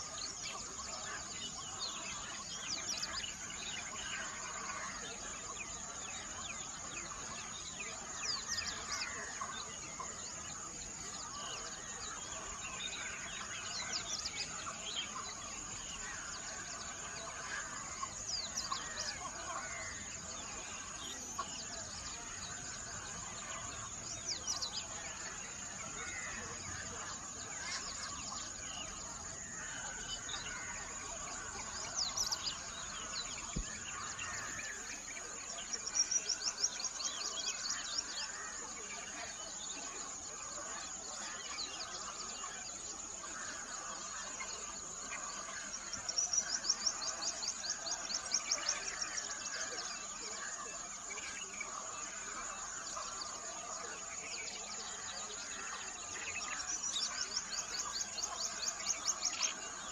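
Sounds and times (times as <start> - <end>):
birds chirping and singing: 0.0 - 59.9.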